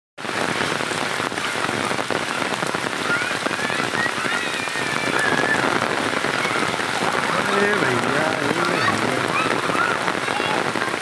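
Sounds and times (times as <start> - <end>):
heavy rain falling: 0.2 - 11.0
running water: 0.2 - 11.0.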